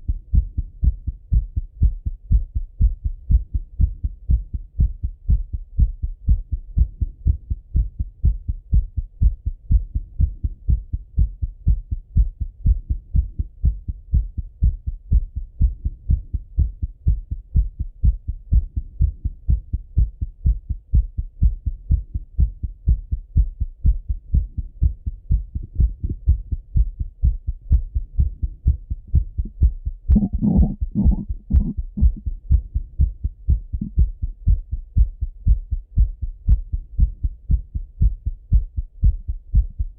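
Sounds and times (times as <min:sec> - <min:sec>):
heart beating fast: 0:00.0 - 0:39.9.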